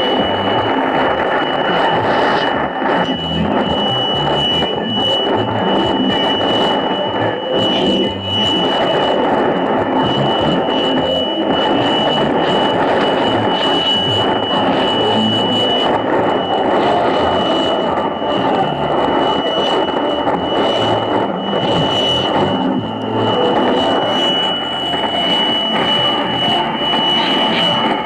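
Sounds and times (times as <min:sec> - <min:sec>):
constant high whistle: 0:00.0 - 0:28.0
radio static: 0:00.0 - 0:28.0.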